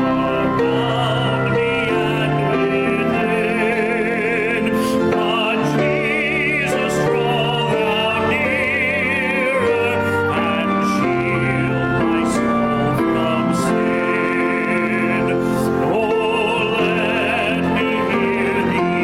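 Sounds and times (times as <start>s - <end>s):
hymn singing with vibrato: 0.0s - 19.0s.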